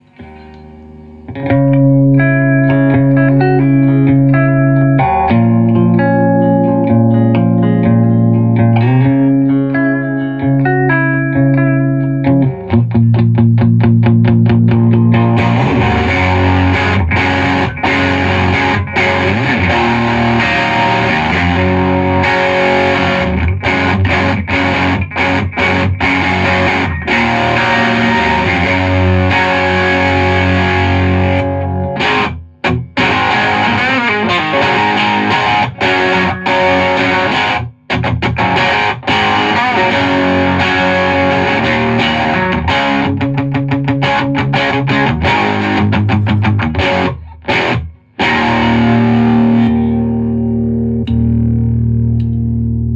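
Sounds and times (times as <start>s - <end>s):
overdriven electric guitar: 0.0s - 52.9s.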